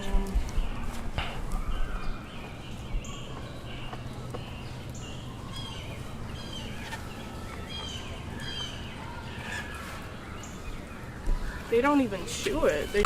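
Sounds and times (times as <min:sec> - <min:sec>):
low outdoor hum: 0:00.0 - 0:13.0
small birds chirping: 0:00.0 - 0:13.0.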